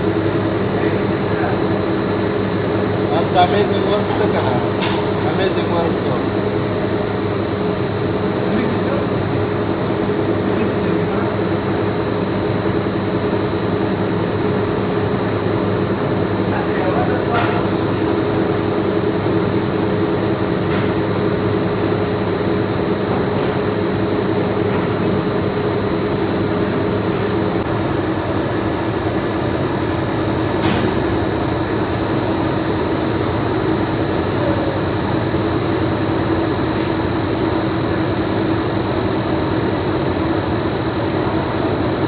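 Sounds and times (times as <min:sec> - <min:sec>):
machinery hum: 0:00.0 - 0:42.0.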